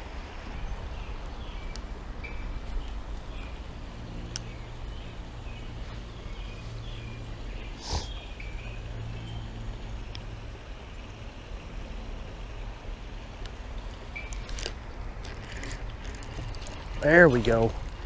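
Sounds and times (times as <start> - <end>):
low creek hum: 0.0 - 18.0.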